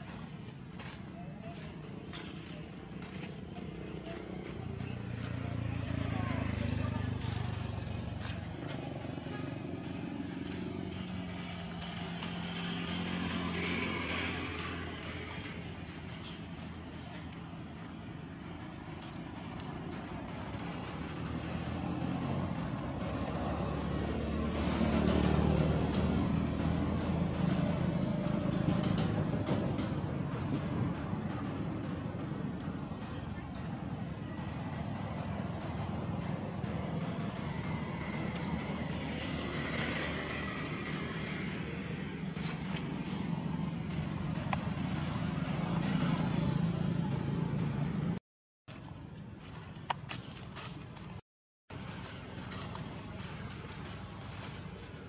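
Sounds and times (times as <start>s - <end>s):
vehicle engine droning: 0.0s - 48.2s, 48.8s - 55.0s.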